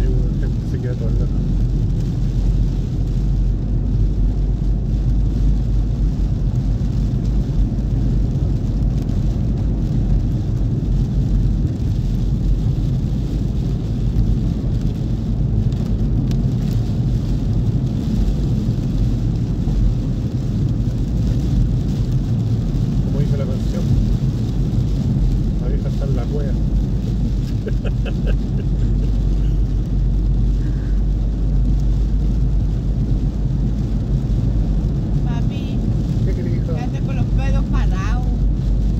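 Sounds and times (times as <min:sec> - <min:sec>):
car cabin engine and tyre rumble: 0:00.0 - 0:38.9.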